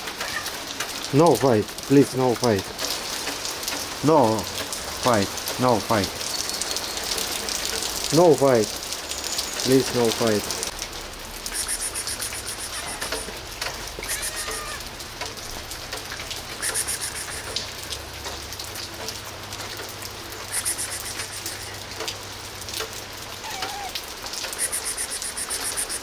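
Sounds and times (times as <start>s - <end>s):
rain falling on pavement: 0.0s - 26.0s
sharp close drips: 0.0s - 26.0s.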